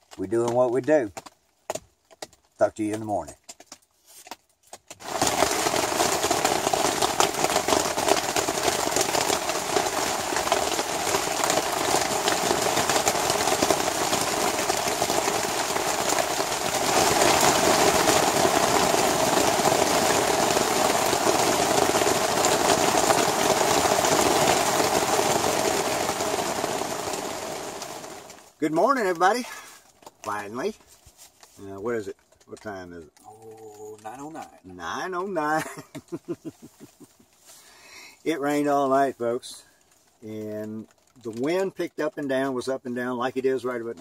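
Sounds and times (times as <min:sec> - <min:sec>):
heavy rain on a tarp: 0:00.0 - 0:44.0.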